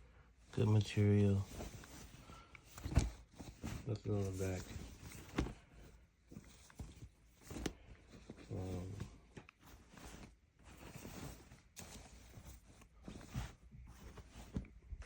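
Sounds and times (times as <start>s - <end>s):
fabric and plastic rustling: 0.5s - 15.0s.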